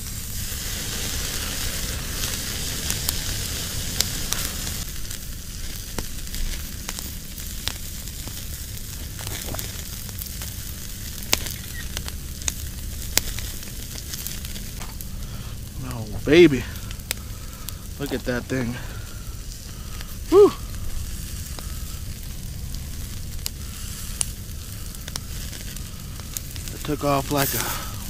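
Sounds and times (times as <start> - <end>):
sharp pops and crackles: 0.0 - 28.0
steak sizzling on grill: 0.0 - 28.0.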